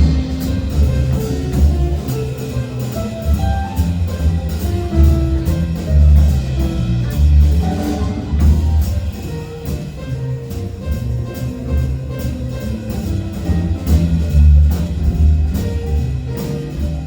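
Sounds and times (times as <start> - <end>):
drum kit: 0.0 - 17.0
heavy bass line: 0.0 - 17.0.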